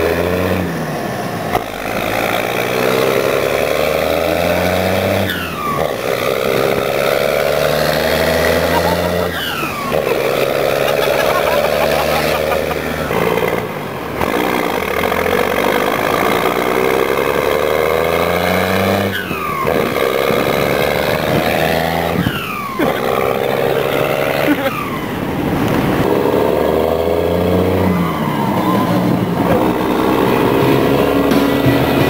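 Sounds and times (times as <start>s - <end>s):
diesel truck accelerating hard: 0.0s - 32.0s.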